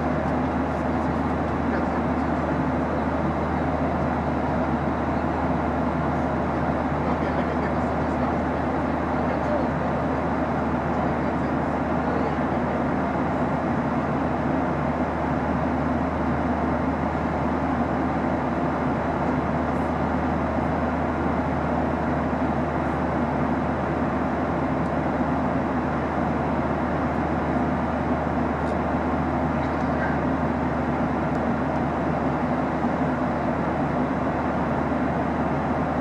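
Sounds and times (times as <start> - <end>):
jet engine drone: 0.0 - 36.0.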